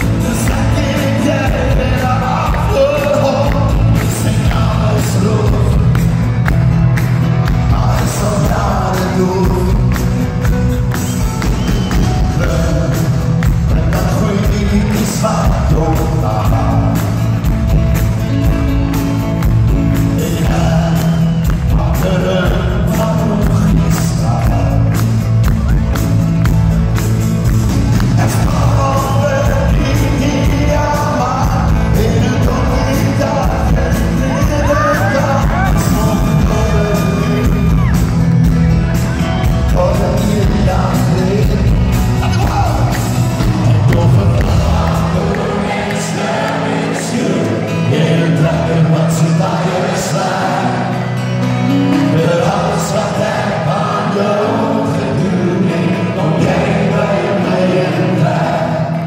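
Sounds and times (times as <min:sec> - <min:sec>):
men singing into microphones: 0:00.0 - 0:06.1, 0:07.5 - 0:10.1, 0:11.6 - 0:17.3, 0:20.1 - 0:25.0, 0:28.0 - 0:38.0, 0:39.7 - 0:51.2, 0:51.9 - 0:59.0
band with bass and drums: 0:00.0 - 0:59.0.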